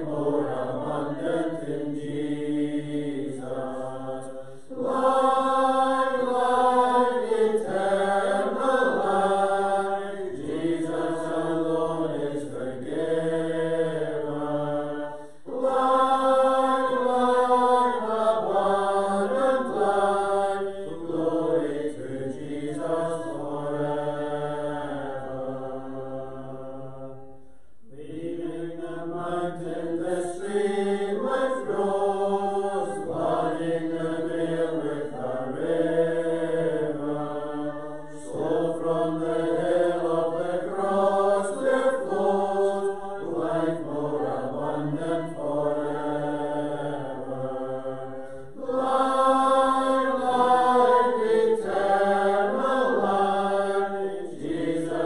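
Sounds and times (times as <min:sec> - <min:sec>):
group singing a hymn: 0:00.0 - 0:55.0.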